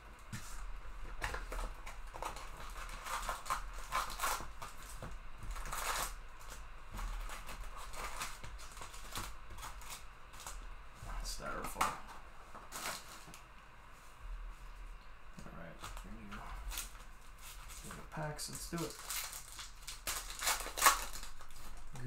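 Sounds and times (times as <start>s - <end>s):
wrappers crinkling and rustling: 0.4s - 10.6s, 11.2s - 13.5s, 15.5s - 22.0s.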